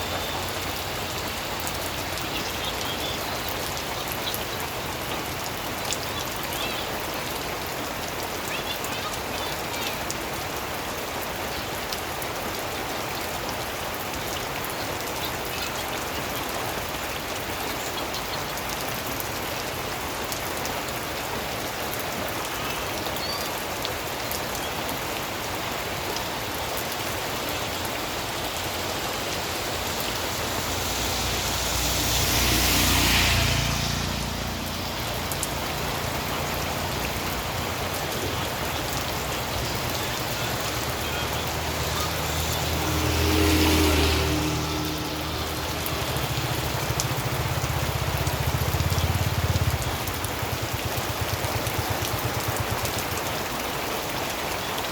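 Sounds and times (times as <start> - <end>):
steady rain pattering: 0.0 - 54.9.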